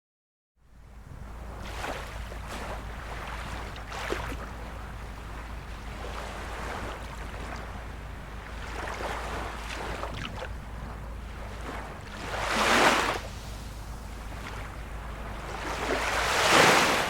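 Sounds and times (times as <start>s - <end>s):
low rumble: 0.7s - 17.0s
small waves lapping: 0.8s - 17.0s
soft water splashes: 1.1s - 17.0s.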